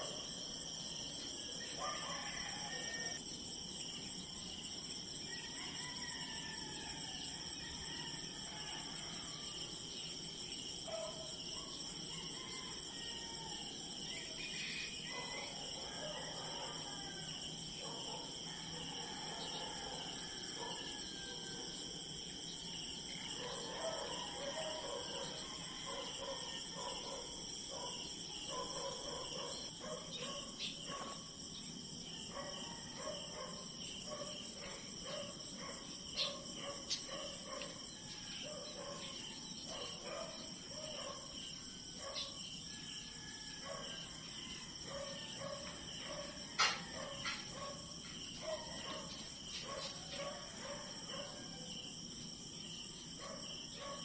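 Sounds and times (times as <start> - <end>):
insect chorus trilling: 0.0 - 54.0.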